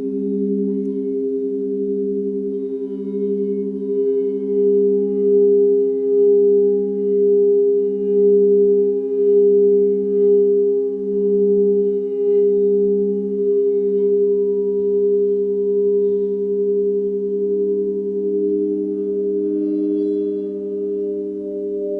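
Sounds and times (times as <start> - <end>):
singing bowls sustained chord: 0.0 - 21.9.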